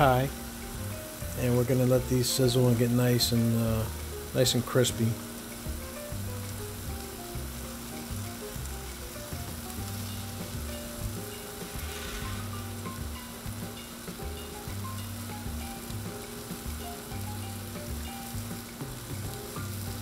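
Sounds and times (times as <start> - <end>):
bacon sizzling on a griddle: 0.0 - 20.0
soft background music: 0.0 - 20.0.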